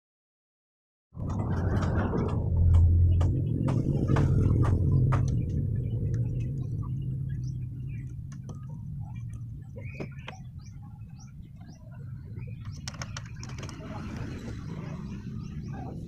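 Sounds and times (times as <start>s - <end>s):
steady low hum: 1.2s - 16.0s
birds chirping: 1.3s - 16.0s.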